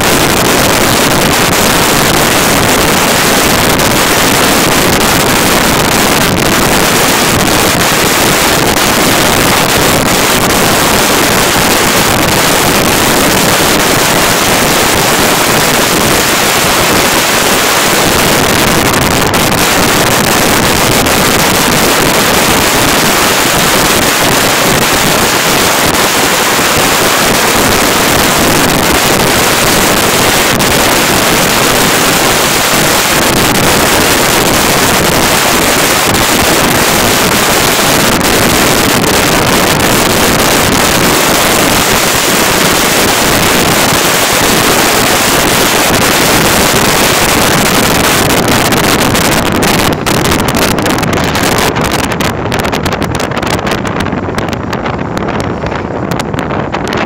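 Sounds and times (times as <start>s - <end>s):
wind roaring over microphone: 0.0s - 57.0s.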